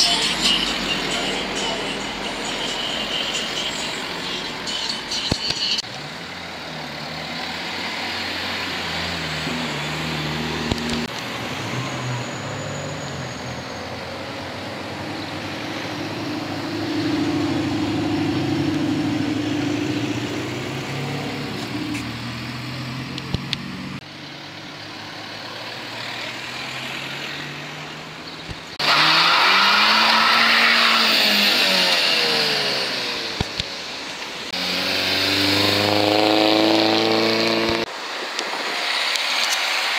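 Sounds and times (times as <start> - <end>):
cars driving past: 0.0 - 39.9.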